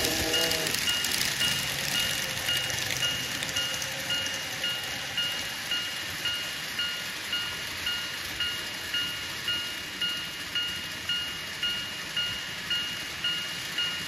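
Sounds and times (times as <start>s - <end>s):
level crossing alarm dinging: 0.0s - 14.0s.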